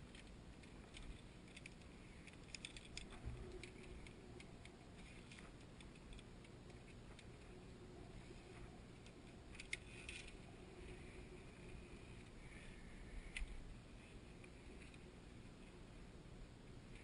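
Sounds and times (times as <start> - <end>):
faint ticks and clicks: 0.0 - 15.9.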